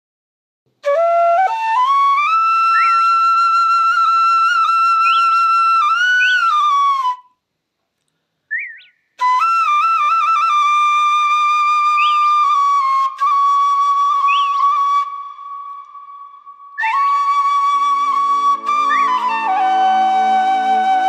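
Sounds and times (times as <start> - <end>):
flute melody: 0.8 - 7.4, 8.5 - 21.0.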